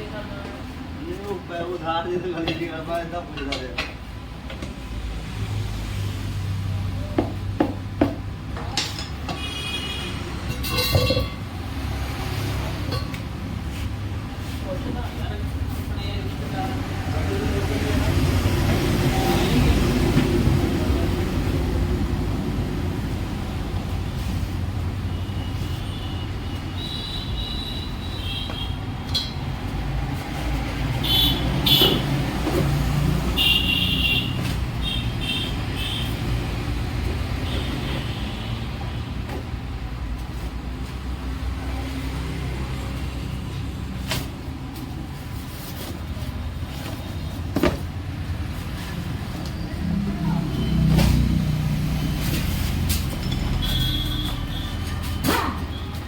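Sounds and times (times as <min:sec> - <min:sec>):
motor vehicle rumbling: 0:10.2 - 0:56.0.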